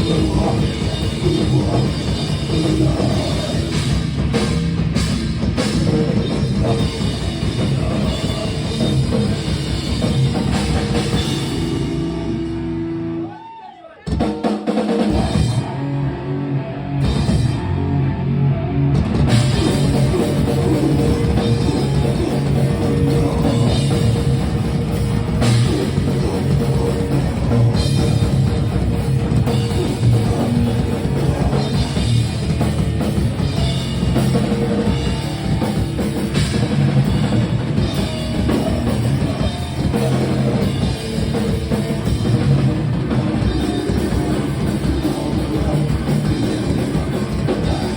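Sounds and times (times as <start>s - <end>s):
drum kit: 0.0s - 12.9s, 14.1s - 15.8s, 17.0s - 17.8s, 18.9s - 47.9s
distorted guitar: 0.0s - 13.4s, 14.2s - 47.9s
heavy rock band playing: 0.0s - 13.4s, 14.1s - 47.9s.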